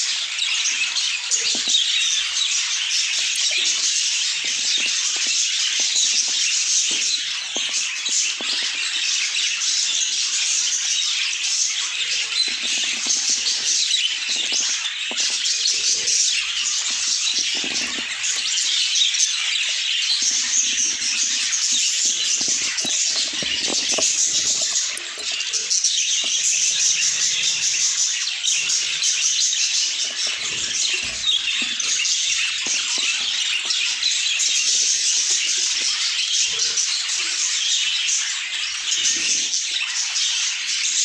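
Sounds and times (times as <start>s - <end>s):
budgerigars chirping and chattering: 0.0s - 41.0s.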